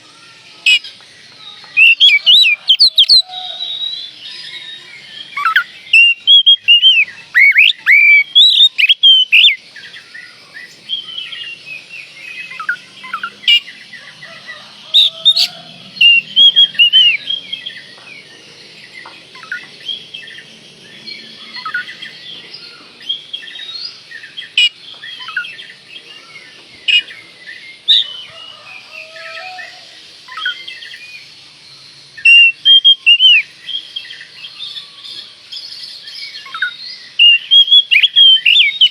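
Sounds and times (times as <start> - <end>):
bird whistled song: 0.0 - 13.9, 14.5 - 31.4, 32.1 - 38.9
background bird chirping: 0.0 - 38.9.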